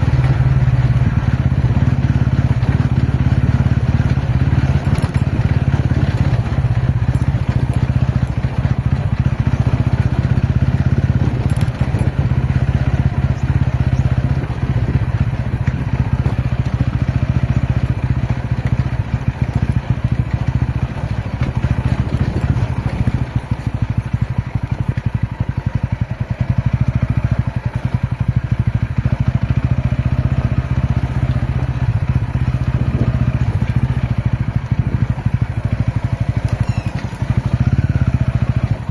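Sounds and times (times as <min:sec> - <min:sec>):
constant rushing noise: 0:00.0 - 0:38.9
motorcycle engine running: 0:00.0 - 0:38.9.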